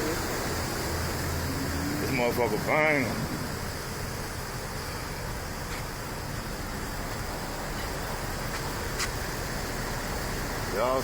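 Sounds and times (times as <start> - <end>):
constant hiss: 0.0 - 11.0
vehicle engine idling: 0.0 - 11.0.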